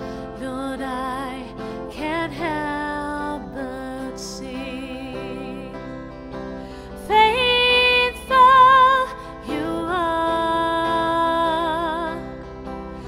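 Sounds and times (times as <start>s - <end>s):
woman singing: 0.0s - 6.2s, 6.8s - 12.8s
electric guitar strumming chords: 0.0s - 13.0s.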